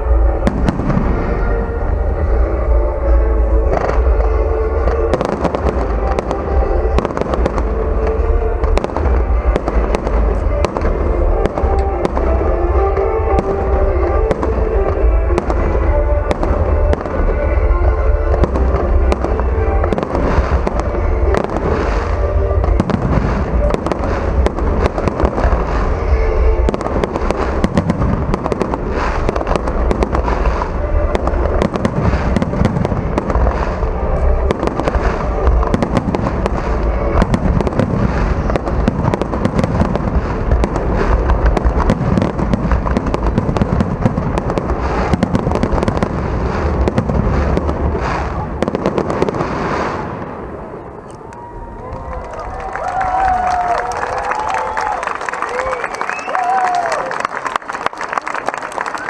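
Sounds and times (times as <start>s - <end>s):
fireworks bangs and crackles: 0.0s - 59.0s
music playing: 0.0s - 59.0s.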